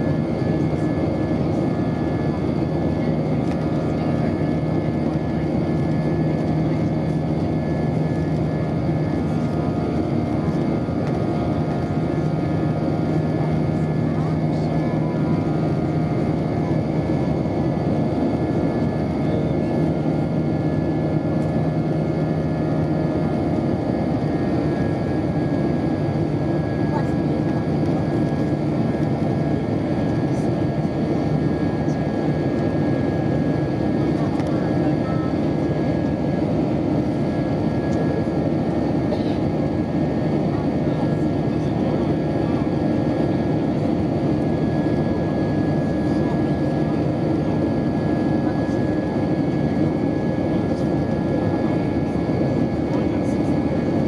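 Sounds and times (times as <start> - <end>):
jet engine rushing in cabin: 0.0 - 54.0.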